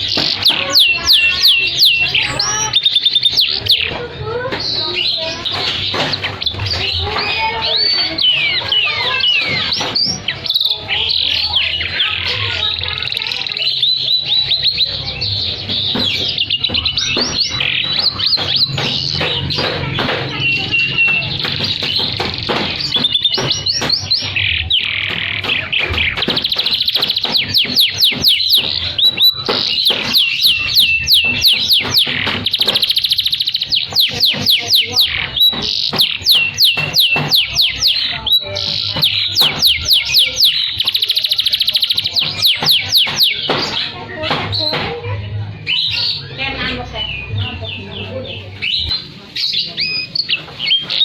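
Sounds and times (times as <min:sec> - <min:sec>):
canary singing: 0:00.0 - 0:44.8, 0:45.4 - 0:51.0.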